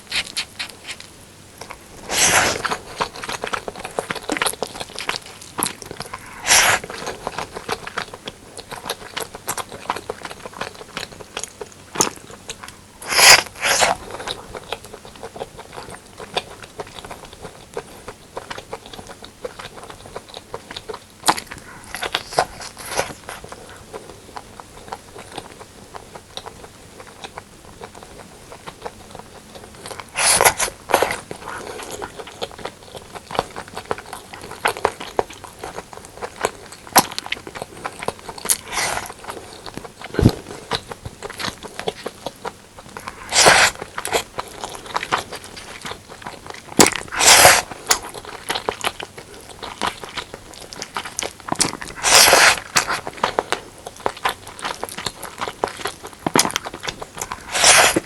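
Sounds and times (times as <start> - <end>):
biting or utensil noise: 0.0 - 17.6, 18.4 - 24.1, 27.2 - 58.0
chewing and mouth smacks: 0.0 - 58.0.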